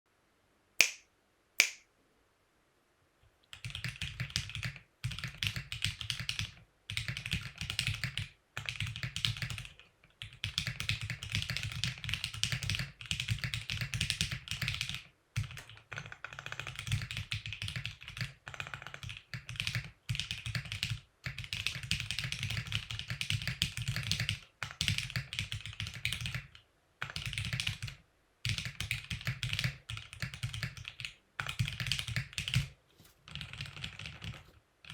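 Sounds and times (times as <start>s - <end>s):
fast typing on mechanical keyboard: 3.5s - 34.9s.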